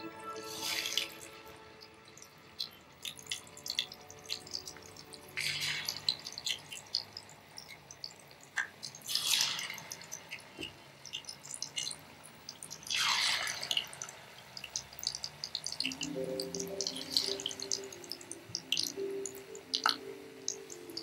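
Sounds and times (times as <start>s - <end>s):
food deep-frying in oil: 0.3s - 21.0s.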